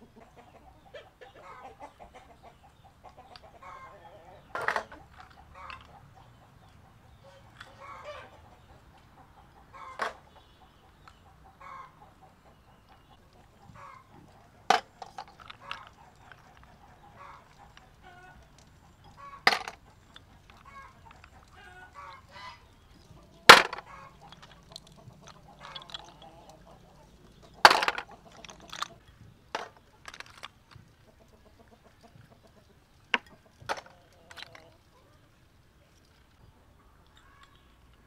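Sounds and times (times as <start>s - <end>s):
chickens clucking: 0.0s - 38.0s.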